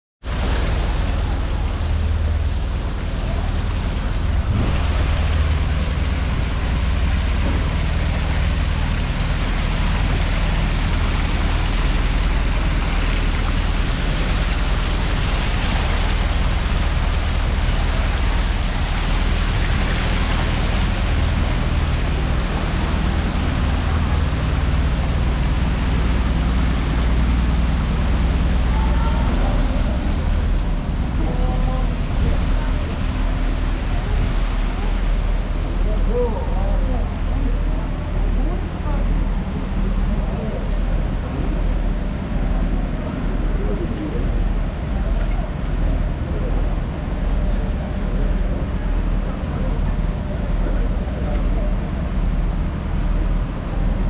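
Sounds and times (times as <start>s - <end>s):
rushing wind by the sea: 0.2s - 54.0s
wind rumble on microphone: 0.2s - 54.0s.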